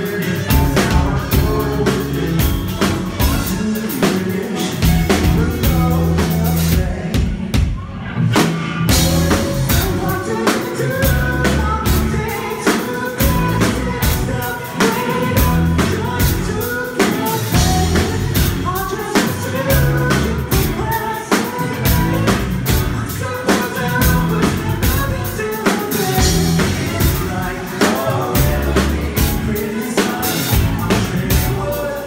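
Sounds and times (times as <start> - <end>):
man singing into a microphone: 0.0 - 7.6, 8.3 - 32.0
drum kit beat: 0.0 - 32.0.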